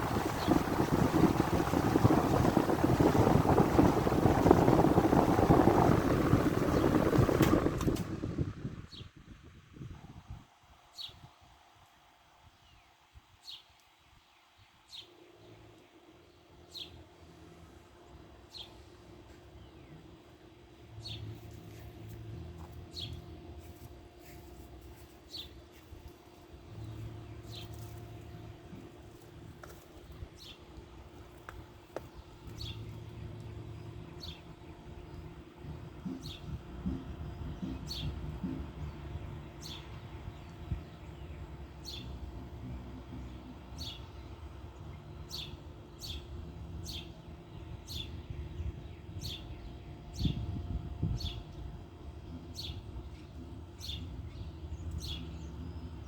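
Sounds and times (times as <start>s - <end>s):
air conditioning unit humming: 0.0s - 13.1s, 13.9s - 56.0s.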